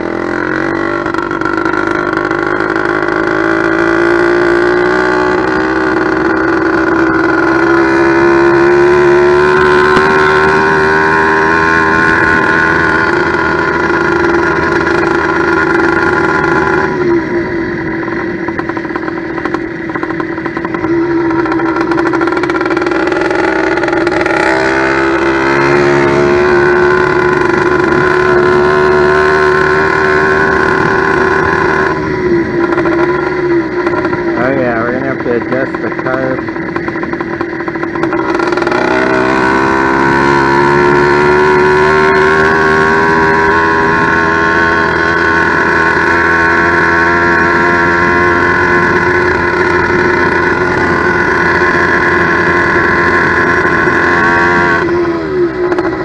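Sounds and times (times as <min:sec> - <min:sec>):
two-stroke engine running: 0:00.0 - 0:56.0.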